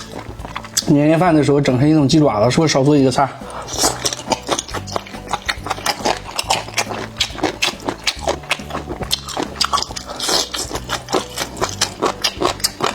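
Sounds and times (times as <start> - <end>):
wet crunchy chewing: 0.0 - 1.0, 3.4 - 12.9
background music with bass: 0.0 - 12.9.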